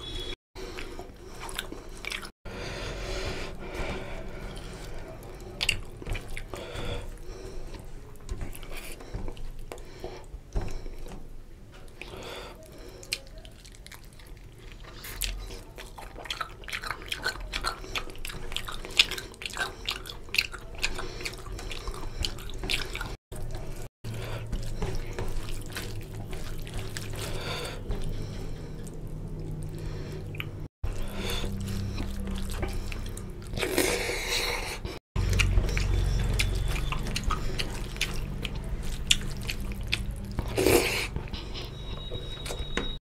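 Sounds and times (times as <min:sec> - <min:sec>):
wet chewing and lip smacks: 0:00.7 - 0:02.3, 0:04.2 - 0:10.0, 0:11.8 - 0:42.8
fingers squishing food: 0:04.0 - 0:34.6, 0:35.2 - 0:42.7.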